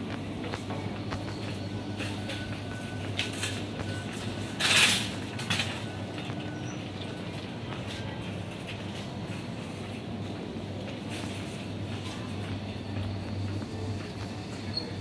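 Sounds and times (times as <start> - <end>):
refrigerated cases humming: 0.0 - 15.0.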